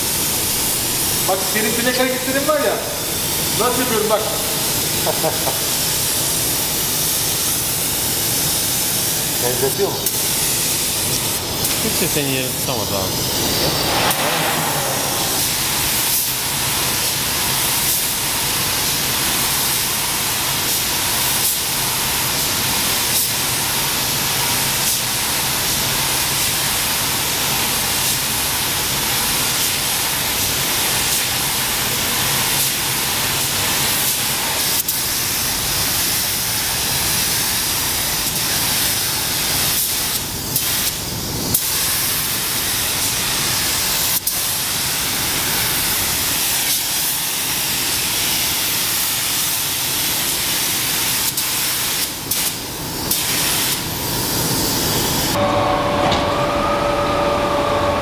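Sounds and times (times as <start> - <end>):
spray gun hissing: 0.0 - 55.4.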